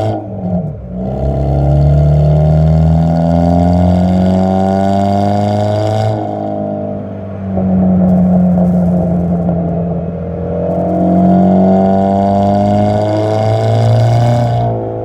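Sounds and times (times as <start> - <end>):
car exhaust revving: 0.0 - 15.0.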